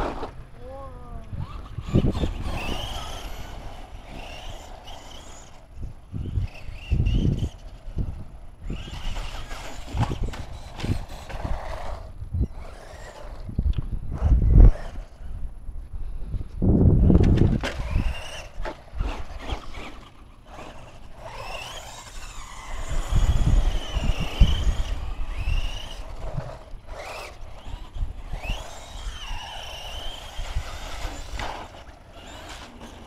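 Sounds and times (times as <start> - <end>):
toy truck motors whining: 0.0 - 15.6, 16.4 - 33.0.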